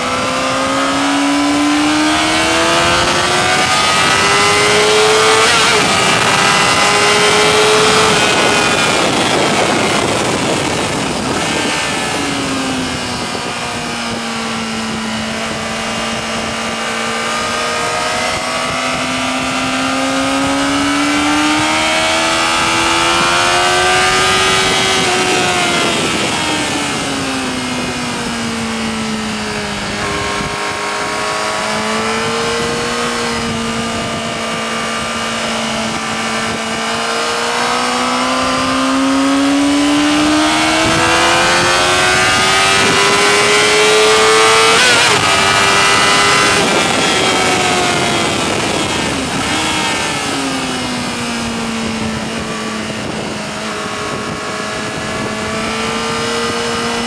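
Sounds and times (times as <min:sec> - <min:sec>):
motorcycle engine at high revs: 0:00.0 - 0:57.0
wind rushing over microphone: 0:00.0 - 0:57.0.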